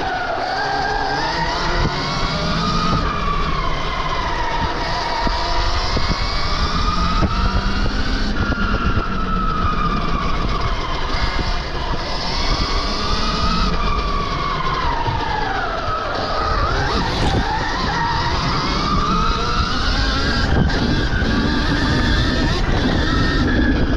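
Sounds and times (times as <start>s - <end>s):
electric motor whine: 0.0s - 23.9s
wind noise: 0.0s - 23.9s.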